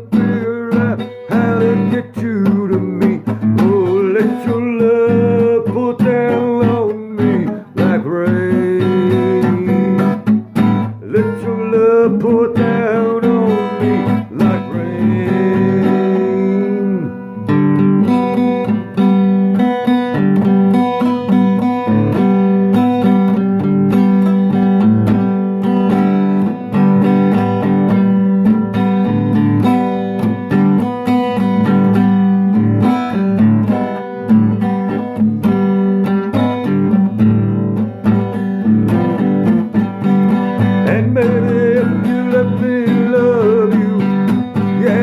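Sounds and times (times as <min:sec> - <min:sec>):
acoustic guitar strumming chords: 0:00.0 - 0:45.0.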